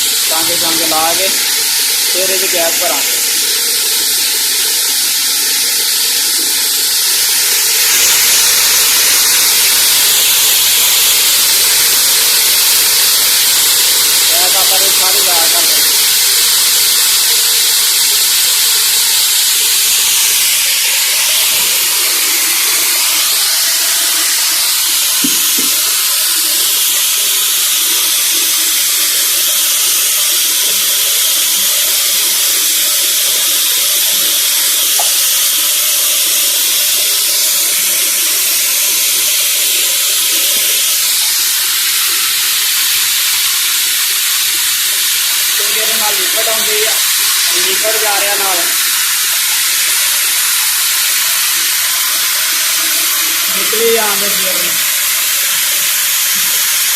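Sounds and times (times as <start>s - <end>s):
refrigerant gas hissing: 0.0s - 56.9s.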